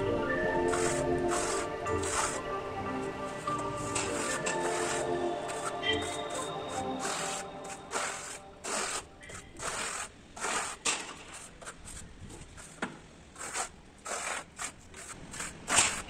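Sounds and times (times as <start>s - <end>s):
trowel scraping plaster: 0.6s - 2.4s, 3.4s - 16.0s.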